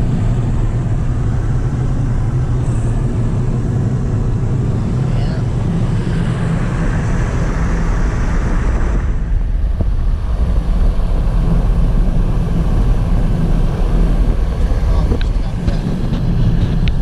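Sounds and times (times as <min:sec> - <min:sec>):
car road and engine rumble: 0:00.0 - 0:17.0
wind and tyre hiss: 0:00.0 - 0:17.0.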